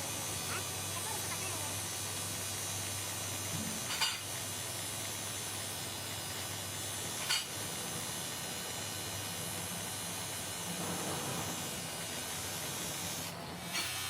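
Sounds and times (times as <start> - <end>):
workshop equipment hiss and hum: 0.0 - 14.0.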